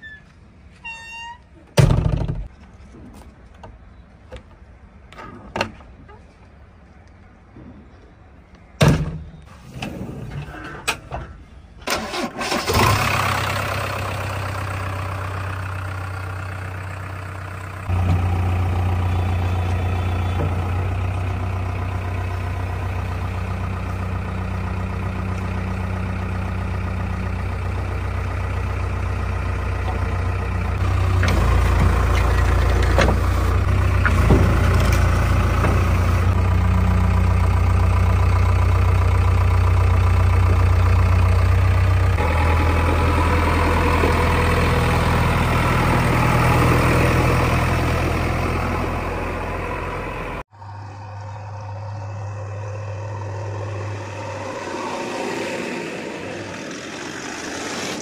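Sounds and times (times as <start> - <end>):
diesel engine starting and idling: 9.7 - 58.0.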